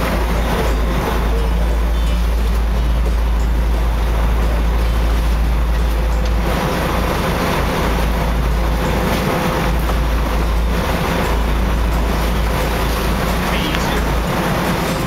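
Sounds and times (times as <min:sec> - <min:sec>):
boat engine running: 0:00.0 - 0:15.0
sea wash: 0:00.0 - 0:15.0
wind buffeting microphone: 0:00.0 - 0:15.0.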